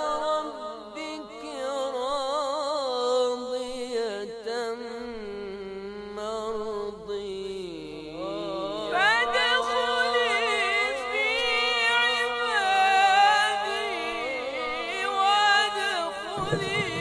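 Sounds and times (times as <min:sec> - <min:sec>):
person singing a slow lament: 0:00.0 - 0:17.0.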